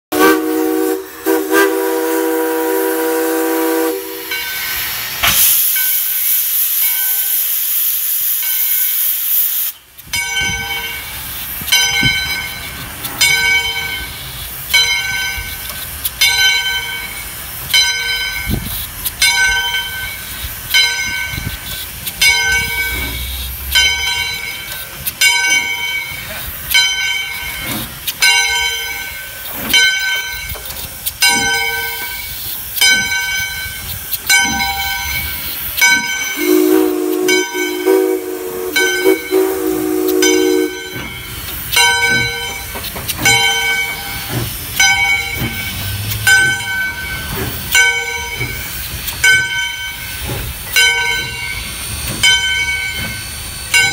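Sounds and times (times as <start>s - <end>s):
steam locomotive chime whistle: 0.1s - 53.9s
loud hiss of steam: 0.2s - 53.9s
locomotive bell ringing: 3.9s - 5.0s, 10.0s - 53.9s.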